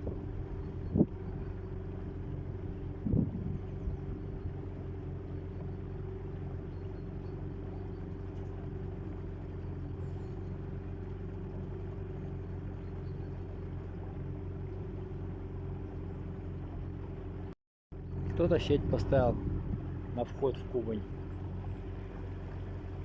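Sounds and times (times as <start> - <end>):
small boat motor humming: 0.0 - 23.0.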